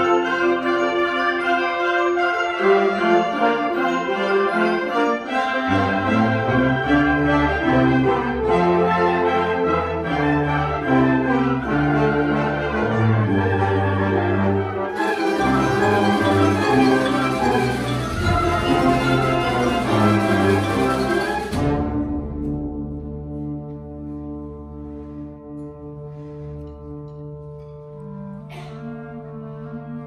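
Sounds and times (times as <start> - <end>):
woodwinds holding chords: 0.0 - 30.0.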